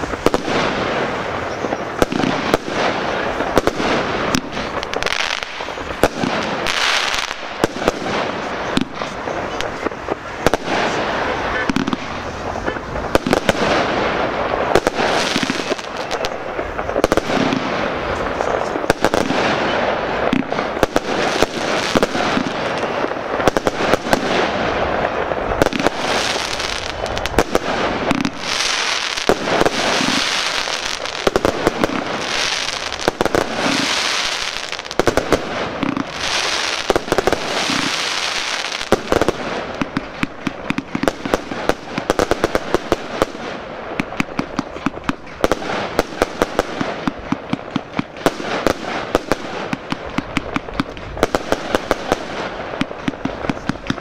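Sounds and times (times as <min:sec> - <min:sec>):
fireworks bangs: 0:00.0 - 0:54.0
fireworks crackling: 0:00.0 - 0:54.0
fireworks hissing crackle: 0:00.0 - 0:54.0.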